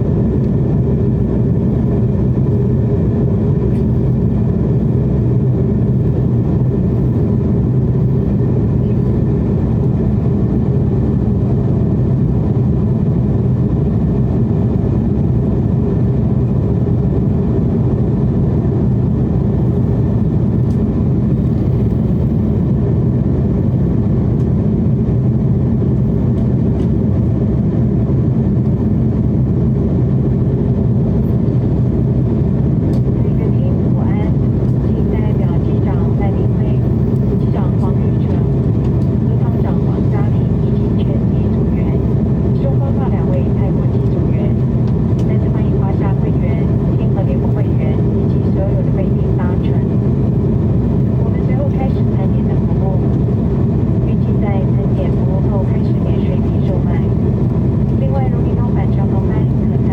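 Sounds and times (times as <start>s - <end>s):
jet engines and airflow rushing: 0.0s - 59.9s.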